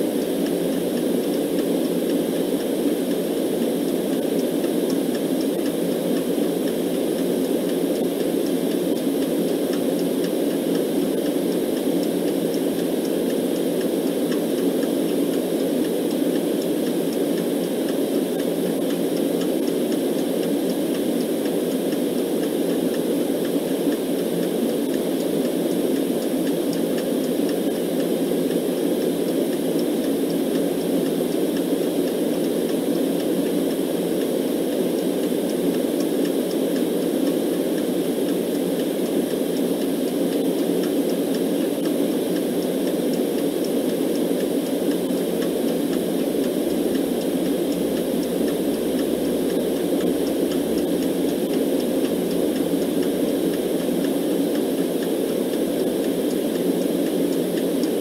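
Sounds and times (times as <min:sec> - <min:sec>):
clock ticking faintly: 0:00.0 - 0:58.0
low rushing white noise: 0:00.0 - 0:58.0.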